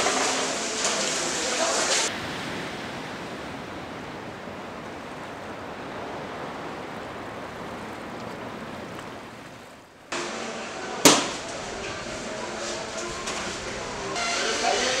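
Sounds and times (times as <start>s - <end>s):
small waves lapping against seawall: 0.0s - 15.0s.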